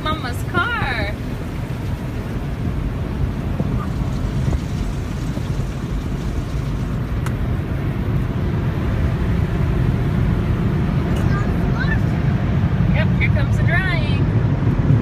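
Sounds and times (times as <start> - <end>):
water spraying onto car: 0.0 - 13.5.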